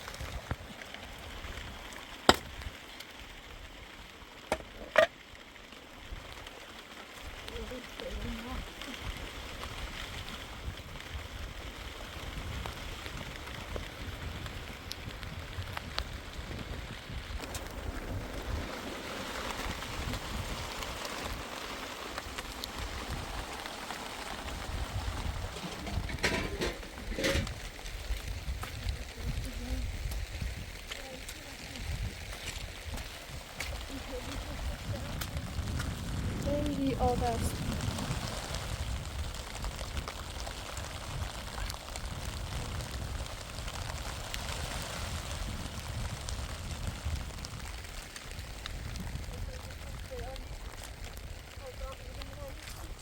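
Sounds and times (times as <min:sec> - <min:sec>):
rain falling: 0:00.0 - 0:53.0
raindrops ticking: 0:00.0 - 0:53.0.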